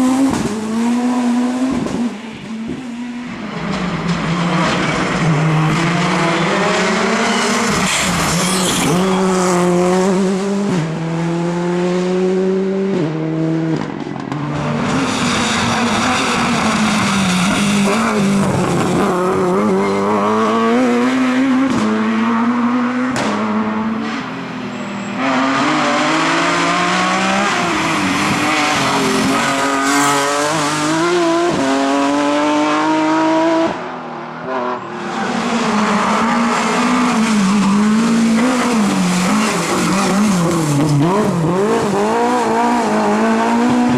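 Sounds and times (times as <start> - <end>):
rally car engines at high revs: 0.0 - 43.9.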